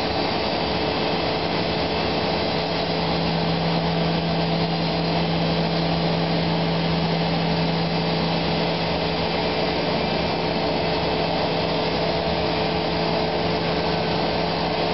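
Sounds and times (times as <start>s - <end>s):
milling machine cutting foam: 0.0s - 14.9s.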